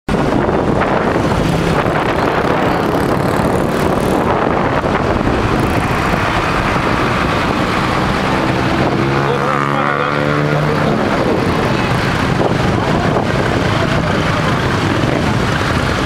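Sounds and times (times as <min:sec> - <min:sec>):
vehicle road noise: 0:00.1 - 0:16.0
wind buffeting microphone: 0:00.1 - 0:16.0.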